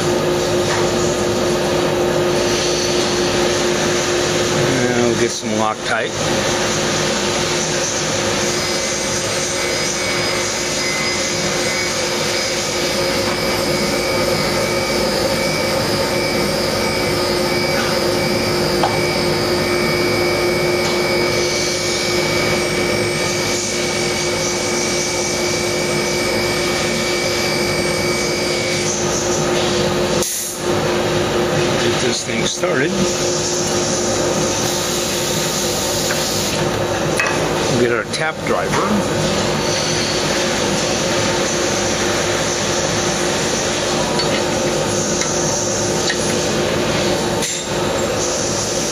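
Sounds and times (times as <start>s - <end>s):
machine fan whirring: 0.0s - 48.9s.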